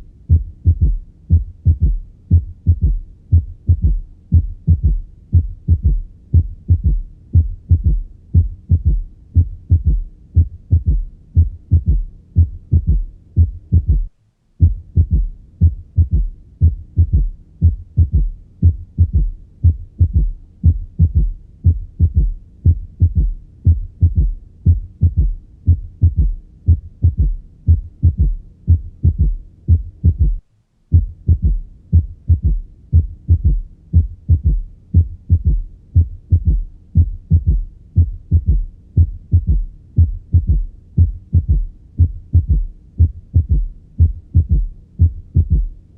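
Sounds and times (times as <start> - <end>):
heartbeat through stethoscope: 0.0 - 45.8.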